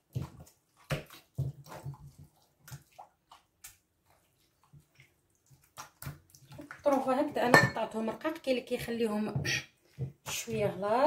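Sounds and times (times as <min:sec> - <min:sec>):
wet squelches of mixing meat: 0:00.0 - 0:11.0.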